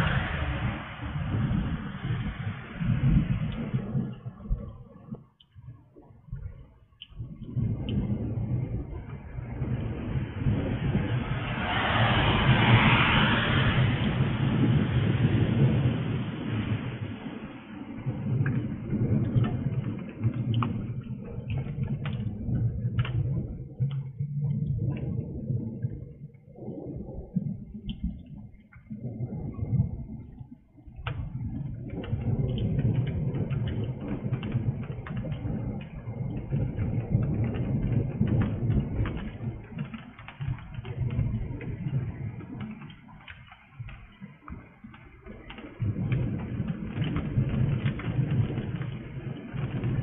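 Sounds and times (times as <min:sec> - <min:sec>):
thunder rumbling: 0:00.0 - 0:05.3, 0:06.2 - 0:50.0
rain dripping: 0:00.0 - 0:50.0.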